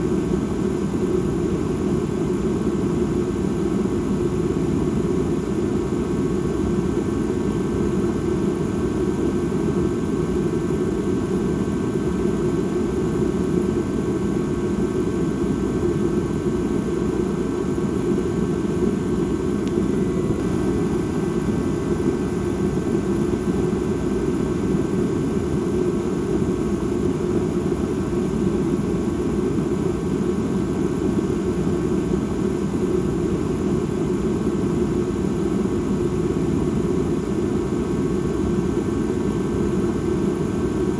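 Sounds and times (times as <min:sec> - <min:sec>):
low noisy hum: 0:00.0 - 0:40.9.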